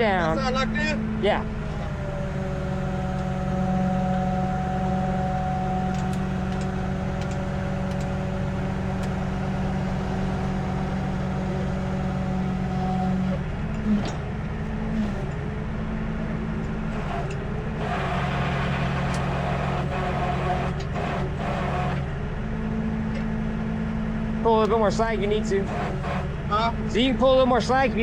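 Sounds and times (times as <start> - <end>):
steady mechanical whine: 0.0 - 28.0
truck engine running: 0.0 - 28.0.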